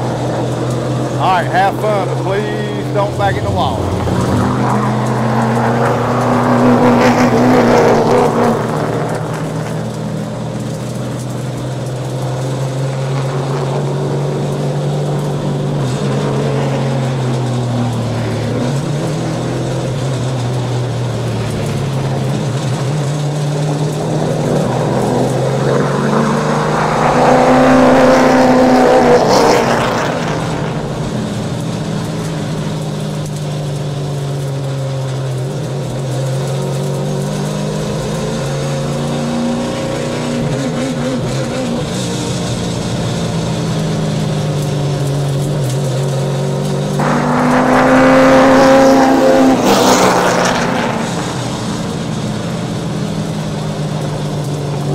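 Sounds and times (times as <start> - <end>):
race car engine running hard: 0.0 - 54.9.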